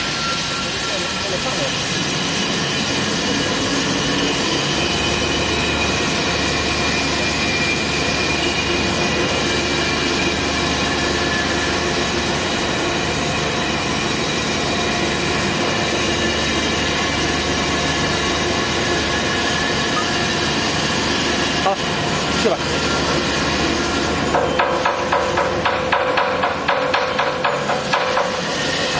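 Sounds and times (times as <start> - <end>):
high-pitched whining tones: 0.0 - 25.0
mixer running: 2.5 - 25.9.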